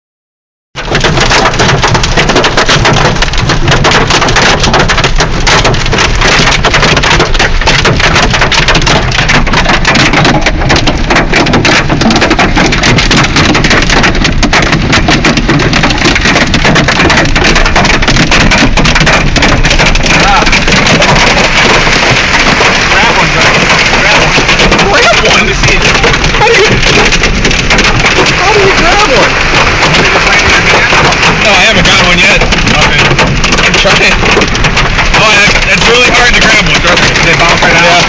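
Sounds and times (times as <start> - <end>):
low road rumble: 0.7 - 38.0
hail clattering on car: 0.8 - 38.0.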